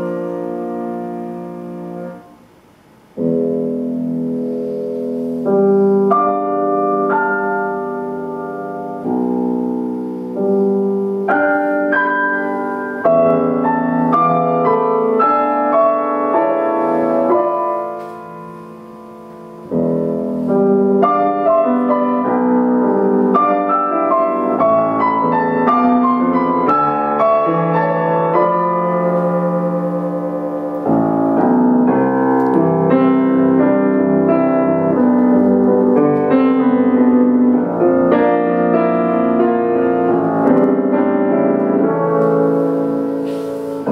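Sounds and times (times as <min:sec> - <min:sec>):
solo piano playing: 0:00.0 - 0:43.9.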